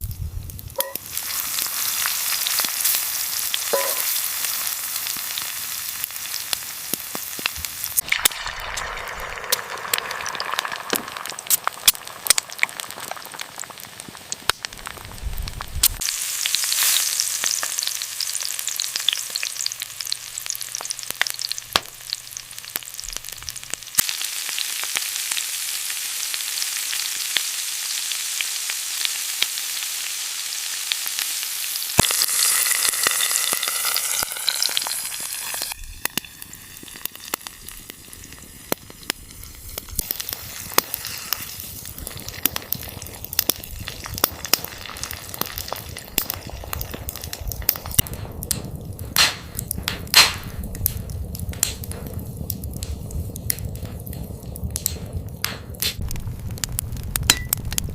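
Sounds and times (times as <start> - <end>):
sharp crackles: 0.0 - 25.9, 31.9 - 57.9
food frying and sizzling: 0.0 - 57.9.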